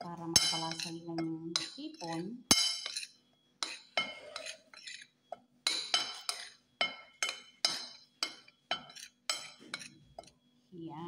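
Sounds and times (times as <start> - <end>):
metal spoon clinking on plate: 0.3 - 10.3.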